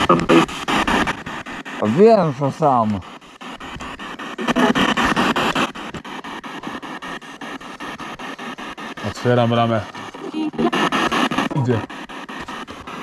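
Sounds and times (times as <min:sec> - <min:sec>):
garbled radio fragments: 0:00.0 - 0:13.0
radio static with rapid clicks: 0:00.0 - 0:13.0.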